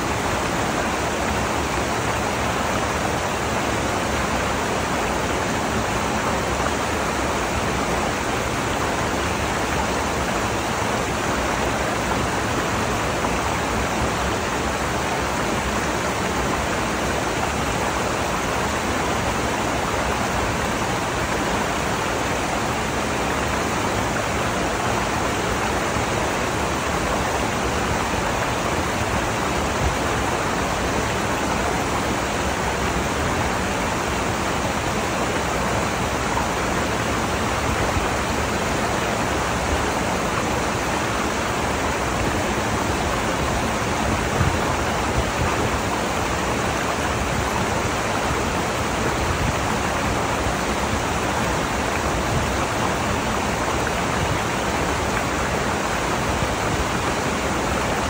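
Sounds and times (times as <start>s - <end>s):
water rushing over stones: 0.0s - 58.0s.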